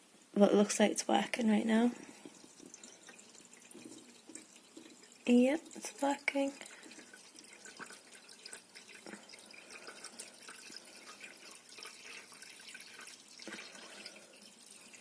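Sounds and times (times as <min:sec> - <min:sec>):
water trickling and dripping: 0:00.4 - 0:15.0.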